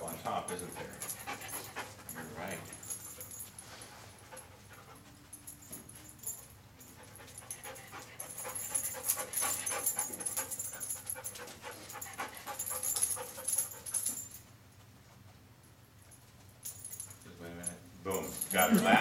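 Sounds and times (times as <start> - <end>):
dog panting and sniffing: 0.1 - 17.2.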